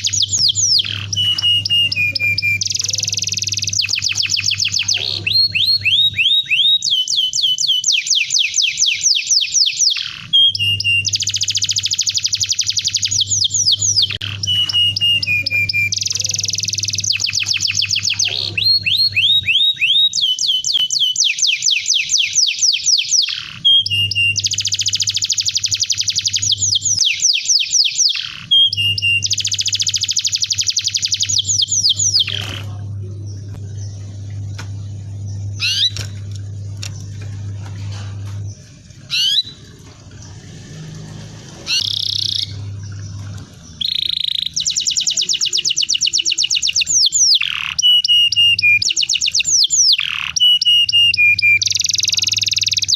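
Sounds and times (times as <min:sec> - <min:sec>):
steady low hum: 0:00.0 - 0:08.8, 0:09.9 - 0:27.2, 0:28.1 - 0:52.9
canary singing trills: 0:00.0 - 0:52.9.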